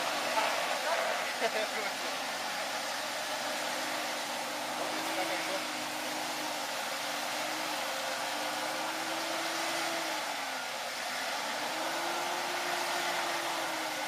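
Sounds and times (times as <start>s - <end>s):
electric winch motor whining: 2.0s - 14.0s.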